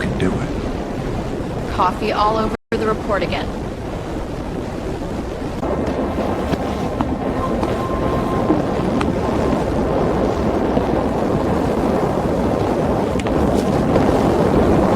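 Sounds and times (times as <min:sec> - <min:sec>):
subway train rumbling: 0:01.8 - 0:14.9.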